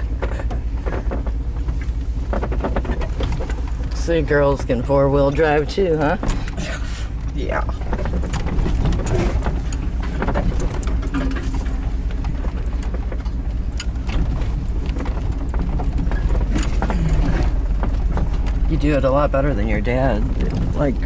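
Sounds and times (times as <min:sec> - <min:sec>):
rattles and knocks in cab: 0:00.0 - 0:21.0
vehicle engine and road rumble: 0:00.0 - 0:21.0.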